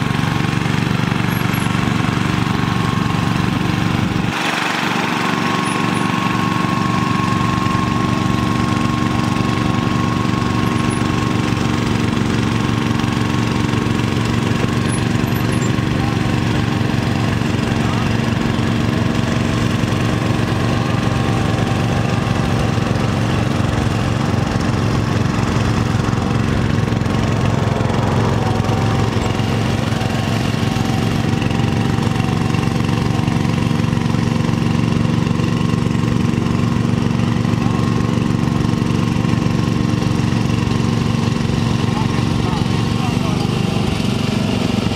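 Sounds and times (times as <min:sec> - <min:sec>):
lawn tractor engine idling: 0:00.0 - 0:44.9.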